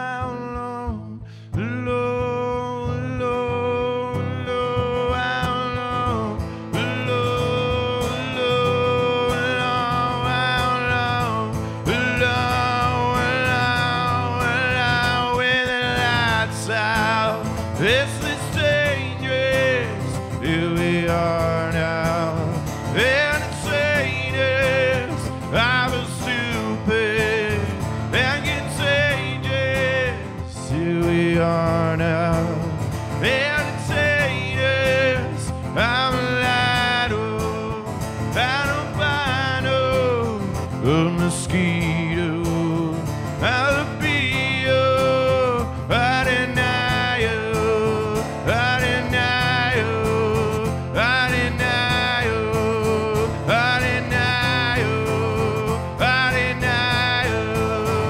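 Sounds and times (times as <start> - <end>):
acoustic guitar: 0.0 - 58.0
man singing: 0.0 - 58.0.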